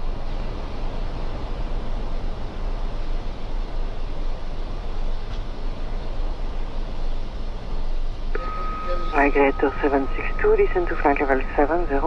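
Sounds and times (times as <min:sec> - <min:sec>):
rushing cockpit noise: 0:01.4 - 0:12.0.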